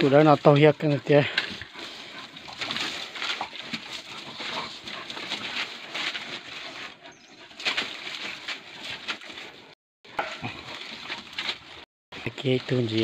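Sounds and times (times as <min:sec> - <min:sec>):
dogs scuffling over leaves and gravel: 0:00.0 - 0:13.0.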